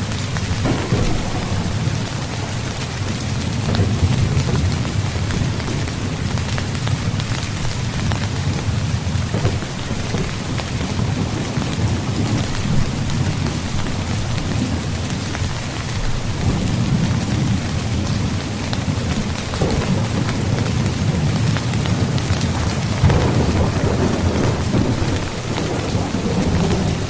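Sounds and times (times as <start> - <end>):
rain on a tent: 0.0 - 27.0.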